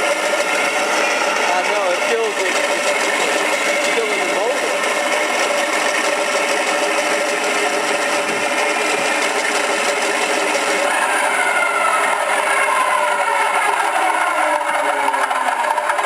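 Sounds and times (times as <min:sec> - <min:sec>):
electric motor and propeller: 0:00.0 - 0:16.0
piston engine drone from speaker: 0:00.0 - 0:16.0.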